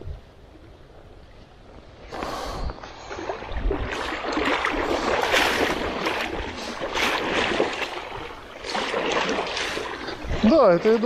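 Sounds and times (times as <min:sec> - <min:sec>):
water splashing and sloshing: 0:00.5 - 0:11.0.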